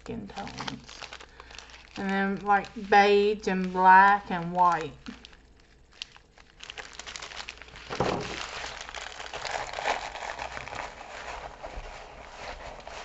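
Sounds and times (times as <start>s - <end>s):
plastic and paper packaging crinkling: 0.0s - 13.0s.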